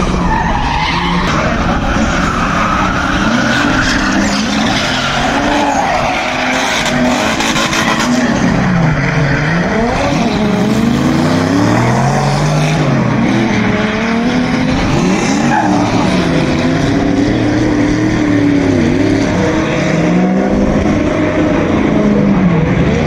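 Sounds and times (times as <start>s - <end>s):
car engines revving: 0.0s - 23.0s
tyres skidding: 0.0s - 23.0s.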